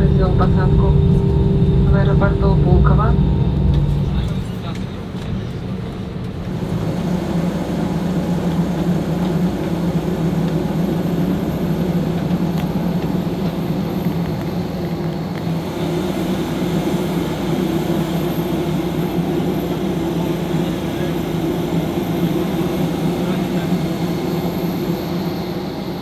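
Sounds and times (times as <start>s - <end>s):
jet airliner engine drone: 0.0s - 26.0s.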